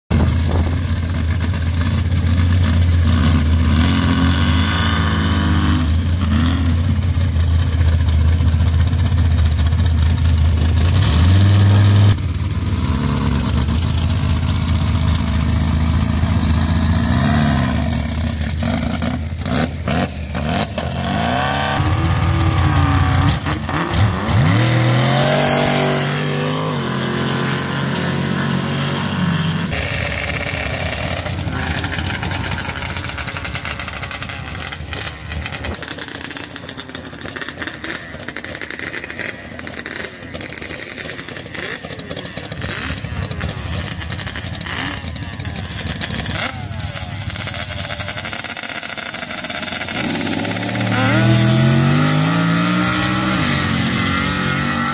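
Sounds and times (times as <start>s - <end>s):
engines revving hard: 0.1s - 54.9s
tires spinning in loose sand: 0.1s - 54.9s.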